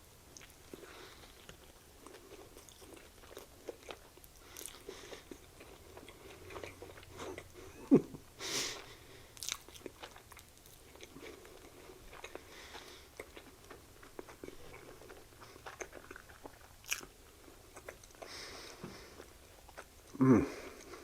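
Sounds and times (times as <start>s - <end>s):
chewing with wet mouth smacks: 0.4s - 7.7s, 8.8s - 20.2s.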